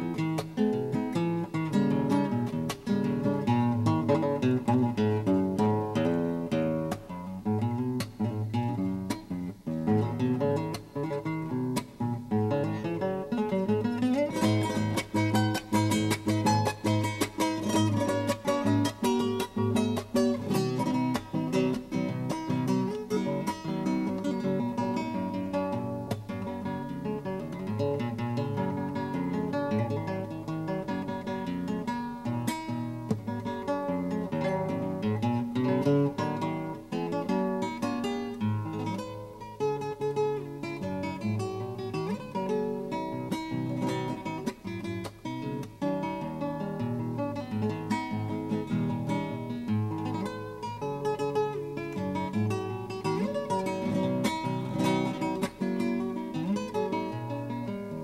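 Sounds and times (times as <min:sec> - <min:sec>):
acoustic guitar plucking: 0:00.0 - 0:58.0.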